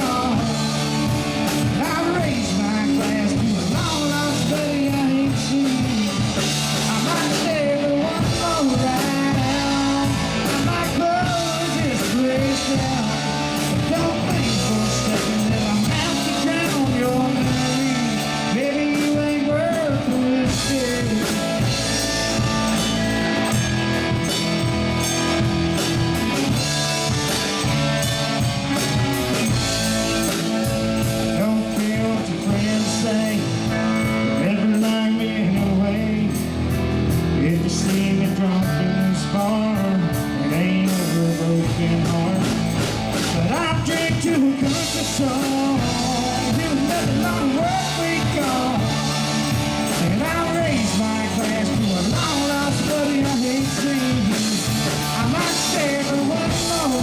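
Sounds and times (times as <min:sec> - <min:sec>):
live country rock band: 0:00.0 - 0:57.0.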